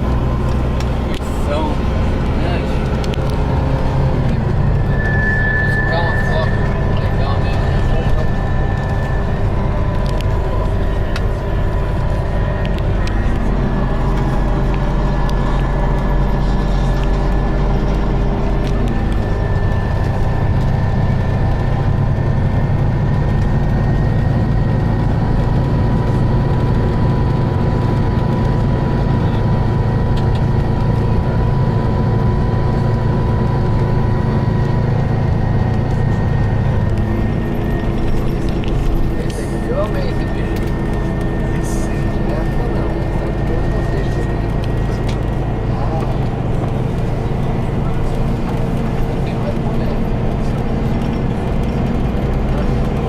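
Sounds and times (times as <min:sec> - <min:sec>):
bus engine running: 0:00.0 - 0:53.0
steady high whine: 0:00.0 - 0:53.0.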